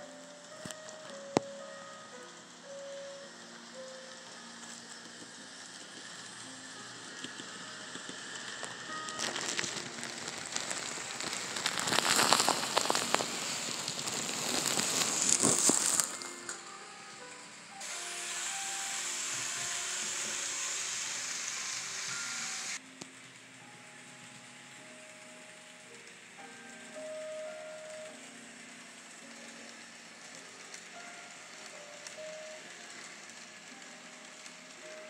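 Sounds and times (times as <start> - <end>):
model train running: 0.0 - 35.0
soft background music: 0.0 - 35.0.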